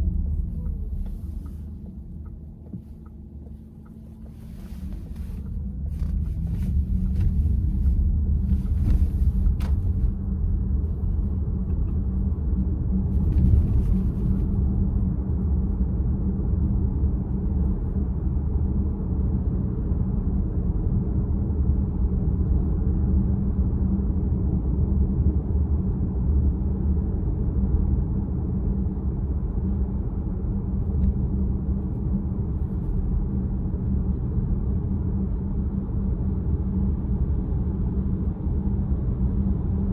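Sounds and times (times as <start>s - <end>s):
road and tyre rumble in car: 0.0s - 39.9s.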